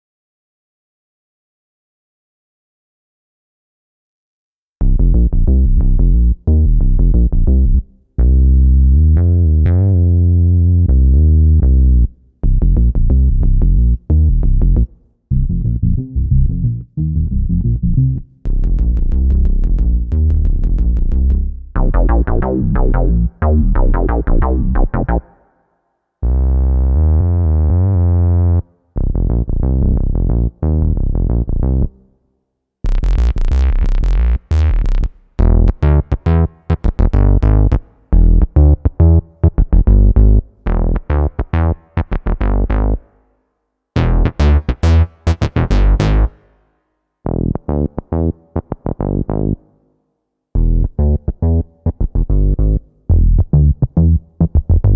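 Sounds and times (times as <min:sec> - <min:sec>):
synth bass lines: 0:04.8 - 0:25.4, 0:26.2 - 0:32.0, 0:32.8 - 0:43.1, 0:44.0 - 0:46.4, 0:47.3 - 0:49.6, 0:50.6 - 0:54.9.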